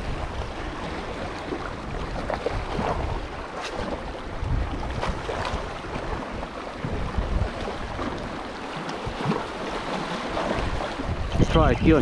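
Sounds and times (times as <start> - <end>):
sea water splashing on shore: 0.0 - 12.0
wind on microphone: 0.0 - 12.0.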